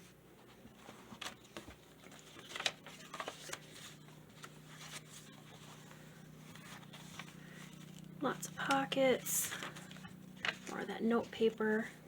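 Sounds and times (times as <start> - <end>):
paper pages turning and rustling: 0.0 - 11.6.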